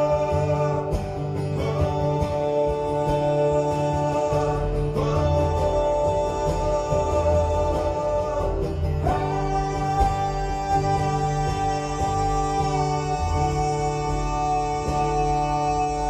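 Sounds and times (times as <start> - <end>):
acoustic guitar song: 0.0 - 16.0.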